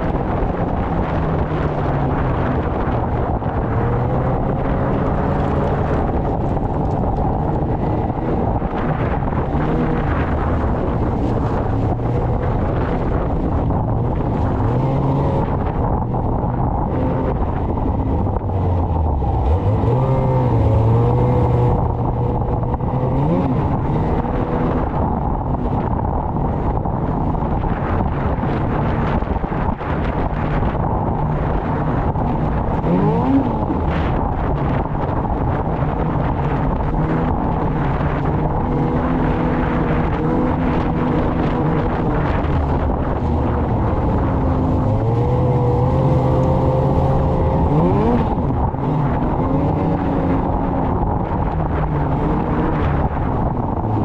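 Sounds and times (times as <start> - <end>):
constant rushing noise: 0.0 - 54.0
snowmobile engine running: 0.0 - 54.0.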